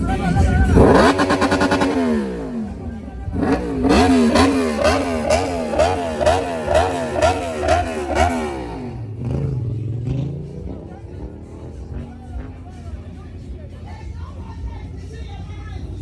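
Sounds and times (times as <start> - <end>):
motorcycle engine revving: 0.0 - 13.6
motorcycle engine idling: 0.0 - 16.0.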